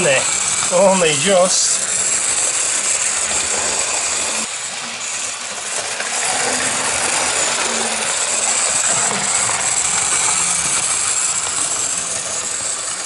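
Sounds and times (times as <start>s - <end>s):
model train motor whirring: 0.0s - 13.0s
wheels rattling on rails: 0.0s - 13.0s.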